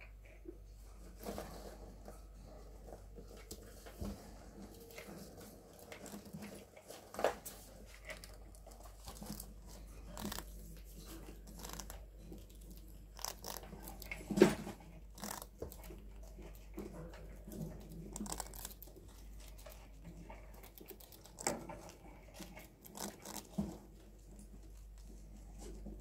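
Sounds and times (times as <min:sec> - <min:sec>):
rat gnawing and chewing food: 0:00.0 - 0:26.0.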